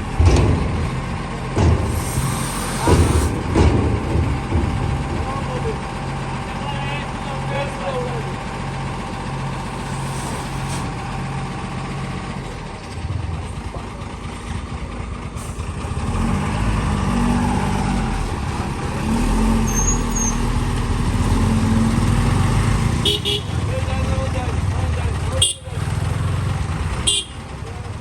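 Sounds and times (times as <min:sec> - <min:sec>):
heavy diesel engines running: 0:00.0 - 0:28.0.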